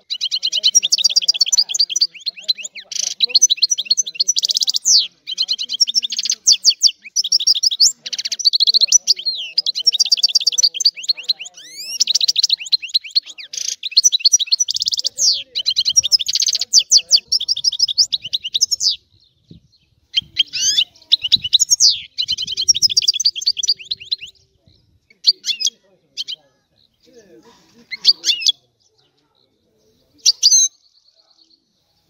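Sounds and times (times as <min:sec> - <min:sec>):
goldfinch twittering song: 0:00.0 - 0:27.1, 0:29.9 - 0:31.6.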